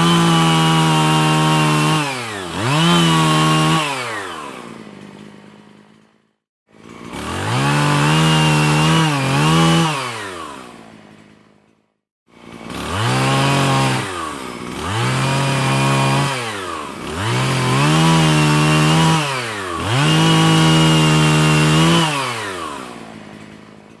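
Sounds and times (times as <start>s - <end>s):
chainsaw revving: 0.0s - 24.0s.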